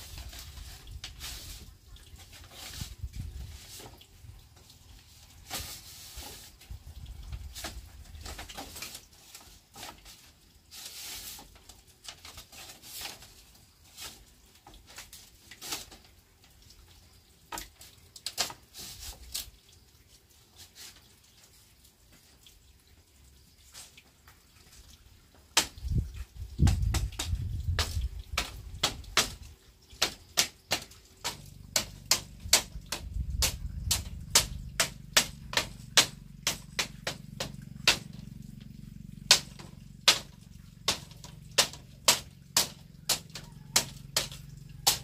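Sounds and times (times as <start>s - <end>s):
bamboo poles knocking and clattering: 0.0s - 19.7s, 23.8s - 45.0s
bamboo scraping rustles: 0.0s - 22.6s, 23.6s - 45.0s.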